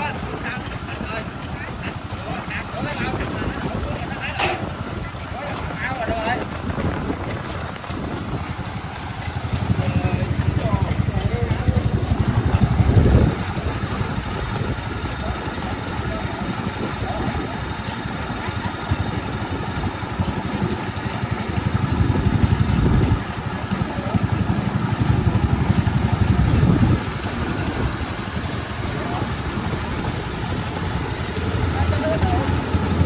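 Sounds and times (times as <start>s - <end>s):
farm machinery engine running: 0.0s - 33.0s.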